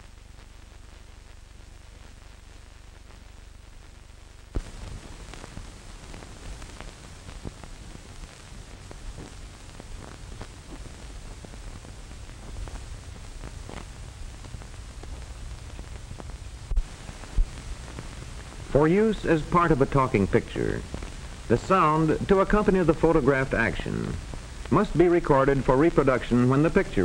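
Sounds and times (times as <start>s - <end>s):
crackling clicks and pops: 0.0s - 27.0s
film soundtrack hiss and hum: 0.0s - 27.0s.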